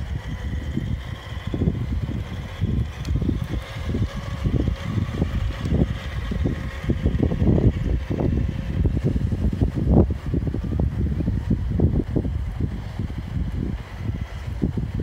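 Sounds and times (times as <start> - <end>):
faint steady whine: 0.0 - 15.0
wind buffeting microphone: 0.0 - 15.0.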